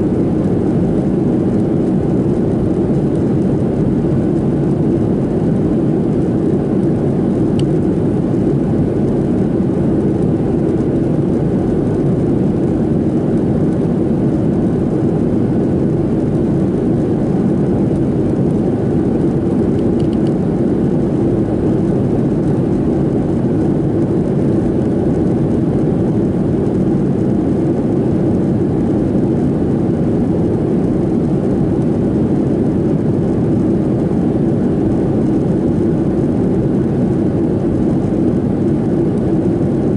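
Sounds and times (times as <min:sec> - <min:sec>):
airplane cabin airflow rush: 0:00.0 - 0:39.9
jet engine drone: 0:00.0 - 0:39.9.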